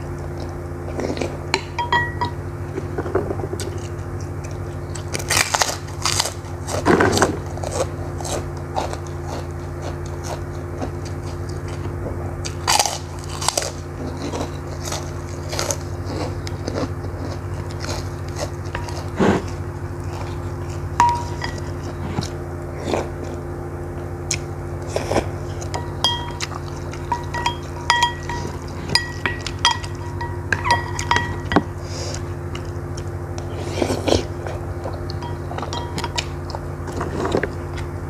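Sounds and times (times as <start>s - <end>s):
steady low hum: 0.0s - 38.0s
crunching bites and chewing: 2.8s - 38.0s.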